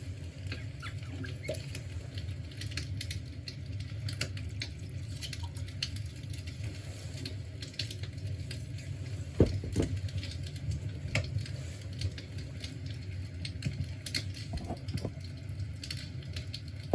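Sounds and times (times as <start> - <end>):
fire crackling and popping: 0.0 - 16.9.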